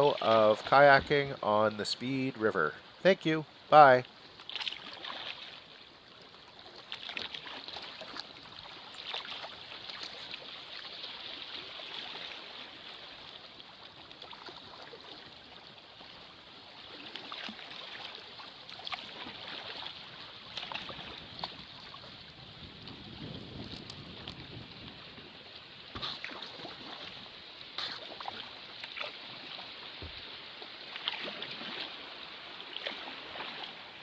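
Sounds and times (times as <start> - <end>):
river water running: 0.0 - 34.0
water splashing against kayak hull: 0.0 - 34.0.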